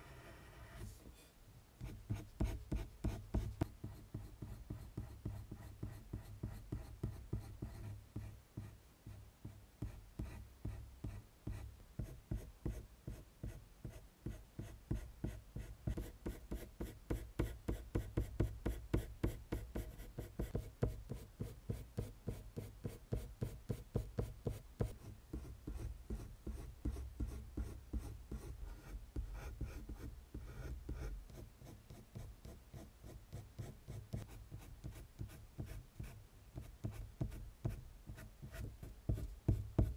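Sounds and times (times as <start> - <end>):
colored pencil scratching on paper: 0.1 - 1.0, 1.8 - 8.8, 9.4 - 39.9.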